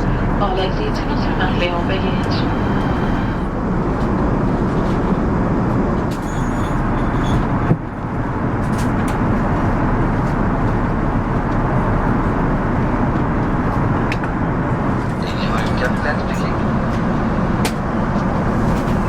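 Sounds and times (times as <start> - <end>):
airplane cabin noise: 0.0 - 19.0.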